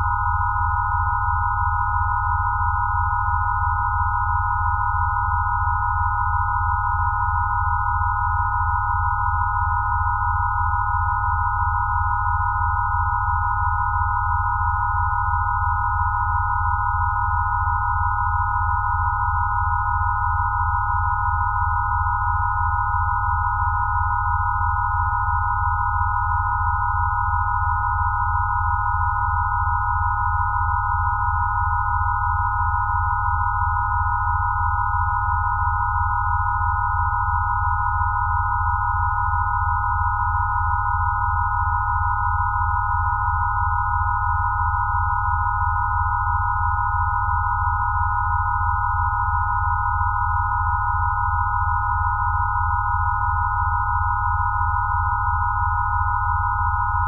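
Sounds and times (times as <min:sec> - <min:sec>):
electronic sine tones: 0:00.0 - 0:57.0.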